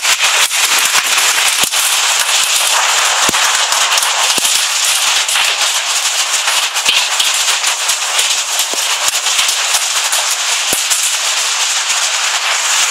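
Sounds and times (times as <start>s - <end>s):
hail and rain pelting: 0.0s - 12.9s.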